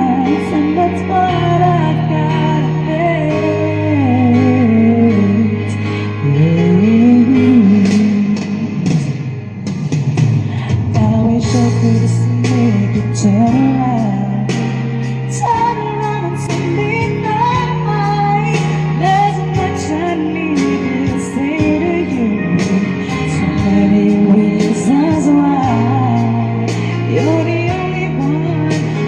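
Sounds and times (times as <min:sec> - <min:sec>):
pop ballad backing track: 0:00.0 - 0:29.0.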